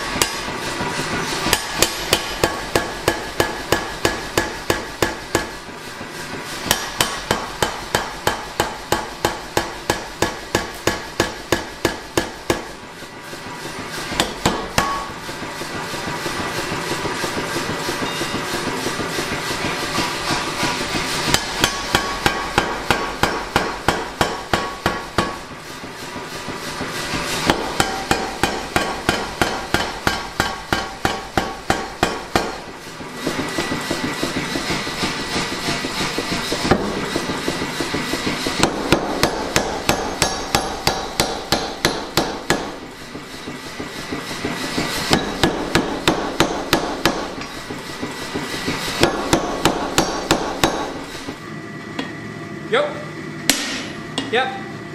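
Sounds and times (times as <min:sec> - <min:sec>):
power hammer striking steel: 0:00.0 - 0:51.4, 0:53.5 - 0:54.3
machine running: 0:00.0 - 0:54.9.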